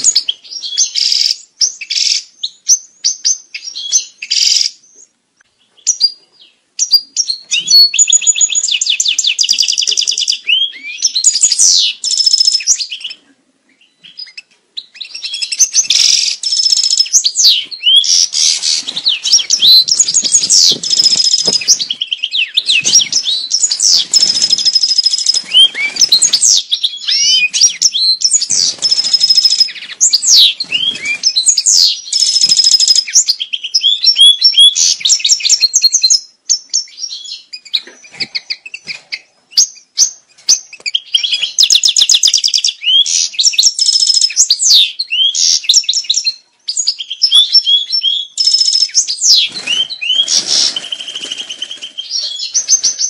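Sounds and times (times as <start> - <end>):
finch singing twitters and trills: 0.0 - 53.0.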